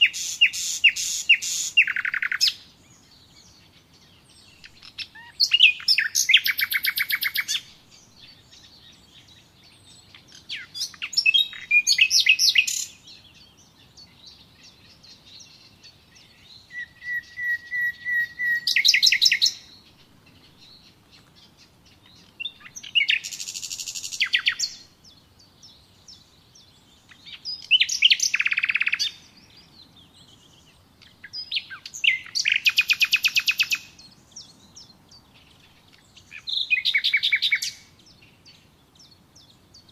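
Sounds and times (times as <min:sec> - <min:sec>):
faint bird chirps: 0:00.0 - 0:39.9
songbird trilling: 0:00.0 - 0:39.9.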